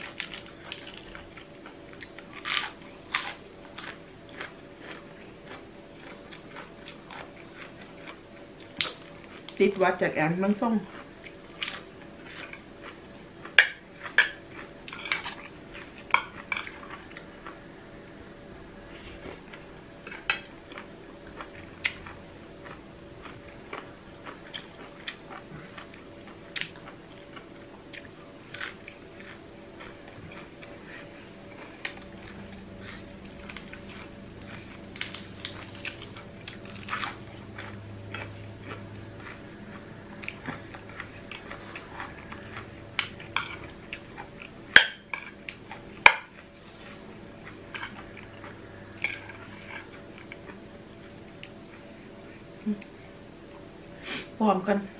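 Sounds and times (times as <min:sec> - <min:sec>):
chewing crunchy food: 0:00.0 - 0:09.8, 0:10.5 - 0:17.7, 0:18.9 - 0:53.6
faint steady hum: 0:00.0 - 0:54.9.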